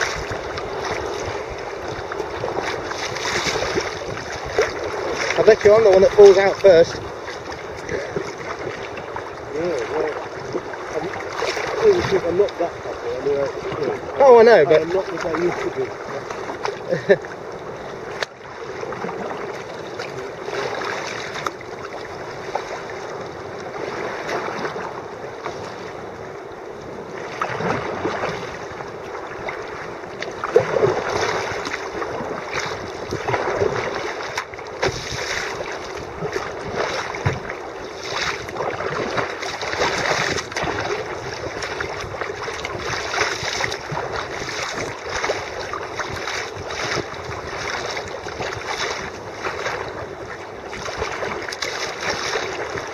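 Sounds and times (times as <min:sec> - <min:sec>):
wind buffeting microphone: 0:00.0 - 0:16.7, 0:17.4 - 0:52.9
sea water splashing against kayak: 0:00.0 - 0:52.9.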